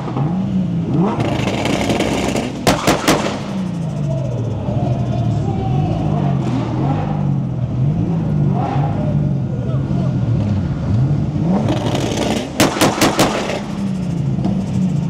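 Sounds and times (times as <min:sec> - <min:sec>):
sharp exhaust bangs: 0:00.0 - 0:09.2, 0:10.2 - 0:15.0
car engine revving: 0:00.0 - 0:15.0.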